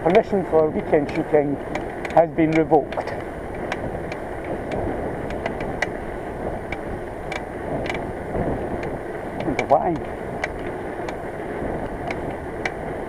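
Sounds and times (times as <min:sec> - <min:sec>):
wind and bicycle road noise: 0:00.0 - 0:13.0.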